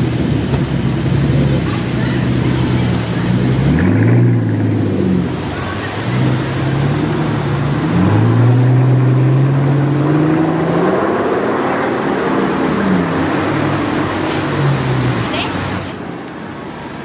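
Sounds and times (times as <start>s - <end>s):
car engine accelerating: 0.0s - 16.2s.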